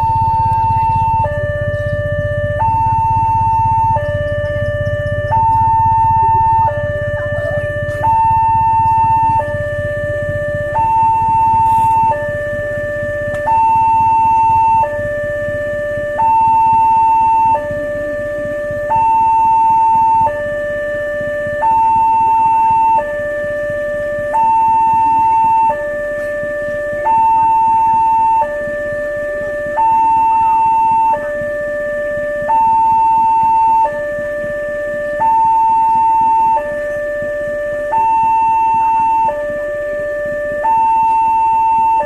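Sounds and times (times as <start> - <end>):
two-tone level-crossing siren: 0.0 - 42.0.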